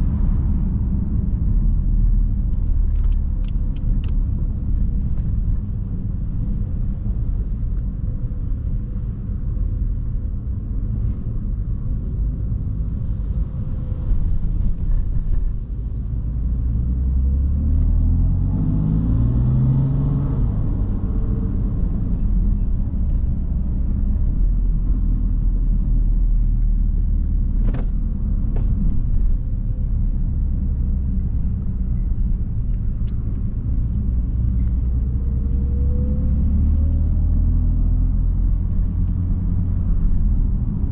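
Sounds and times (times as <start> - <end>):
car engine rumbling: 0.0 - 40.9
road noise: 0.0 - 40.9.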